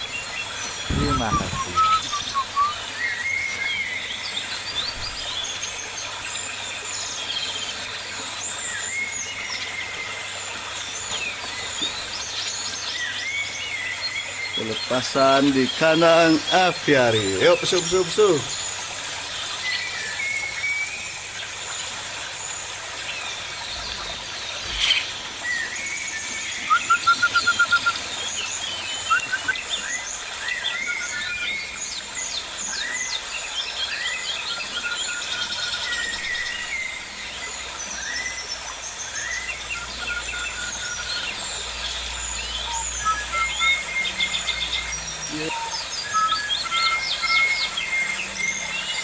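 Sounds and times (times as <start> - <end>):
birds chirping and whistling: 0.0 - 49.0.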